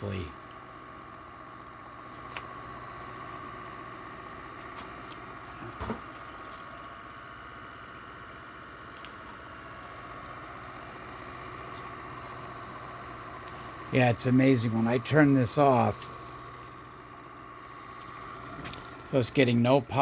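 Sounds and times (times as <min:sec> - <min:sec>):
rotor spinning with hum and whir: 0:00.0 - 0:20.0.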